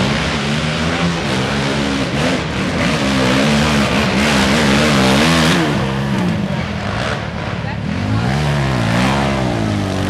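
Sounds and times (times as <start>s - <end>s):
quad bike engine revving: 0.0s - 10.0s.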